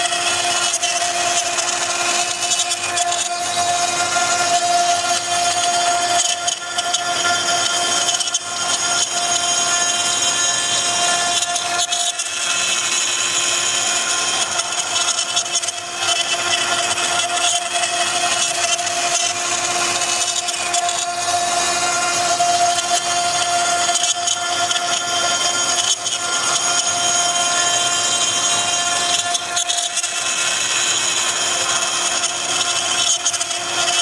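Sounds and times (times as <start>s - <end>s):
cutting bit hissing through wood: 0.0s - 34.0s
wood router spindle whine: 0.0s - 34.0s.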